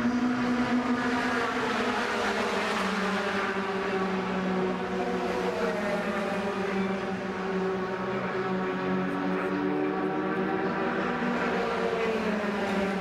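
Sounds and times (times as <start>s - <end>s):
racing truck engines droning: 0.0s - 13.0s.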